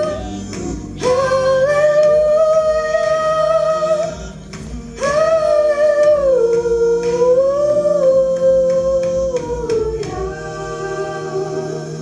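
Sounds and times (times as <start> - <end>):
girls singing into microphones: 0.0 - 12.0.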